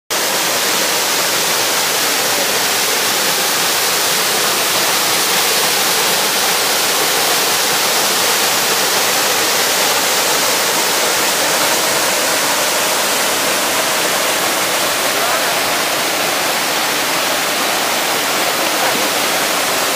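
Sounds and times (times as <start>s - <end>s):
waterfall rushing: 0.1s - 19.9s.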